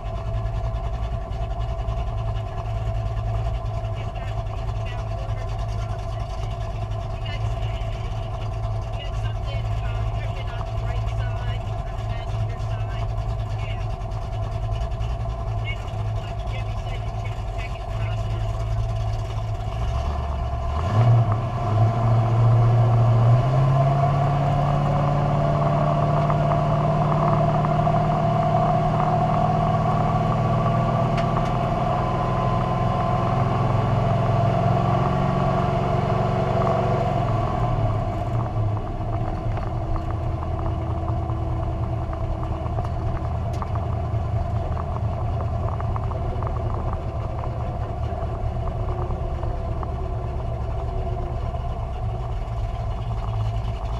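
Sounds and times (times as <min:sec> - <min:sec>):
drag car engine revving: 0:00.0 - 0:53.9.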